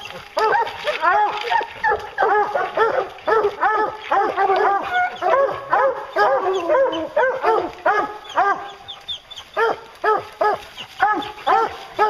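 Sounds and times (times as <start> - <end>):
hounds barking: 0.0 - 12.0.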